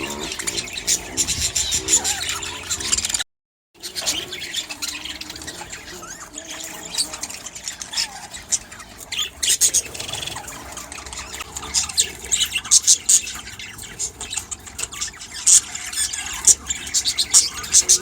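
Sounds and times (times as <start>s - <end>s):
budgerigars chattering and squawking: 0.0s - 3.2s, 3.8s - 18.0s.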